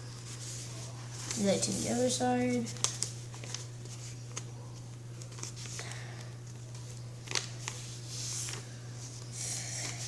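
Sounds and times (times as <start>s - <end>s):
paper rustling while folded: 0.2s - 10.0s.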